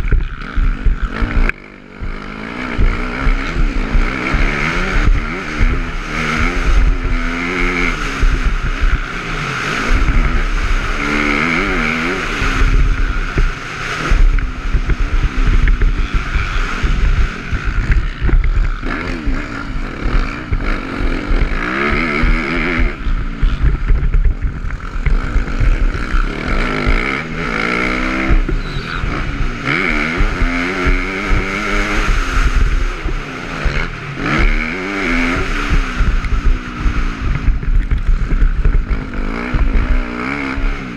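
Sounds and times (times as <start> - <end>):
dirt bike engine revving: 0.0 - 40.9
wind noise: 0.0 - 40.9.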